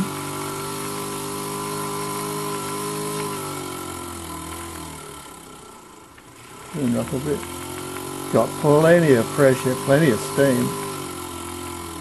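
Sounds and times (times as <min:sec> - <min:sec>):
steam hissing: 0:00.0 - 0:05.6, 0:06.4 - 0:12.0
model steam engine buzzing hum: 0:00.0 - 0:12.0.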